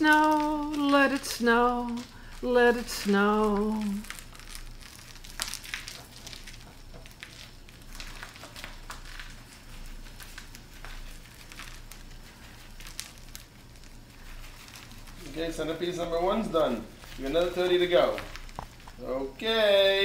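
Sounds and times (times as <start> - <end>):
bag rustling and crinkling: 0.0 - 19.3
low steady hum: 0.0 - 20.0.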